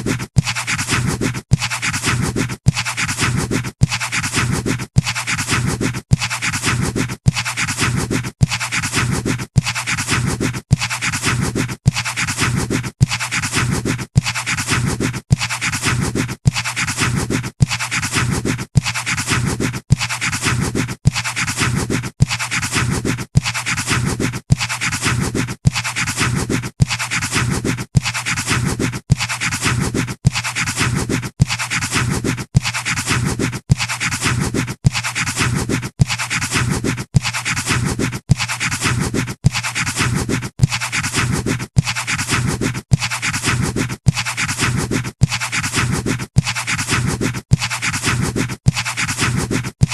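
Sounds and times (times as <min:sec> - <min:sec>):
pencil scratching on paper: 0:00.0 - 0:49.9.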